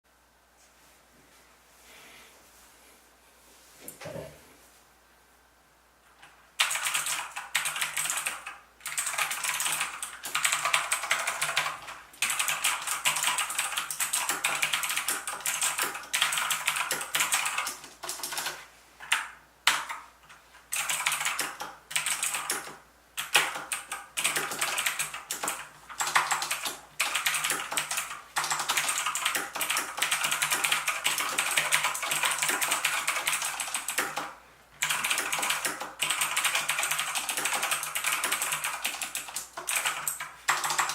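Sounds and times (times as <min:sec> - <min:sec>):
mechanical keyboard typing: 0:06.6 - 0:20.0, 0:20.7 - 0:40.9.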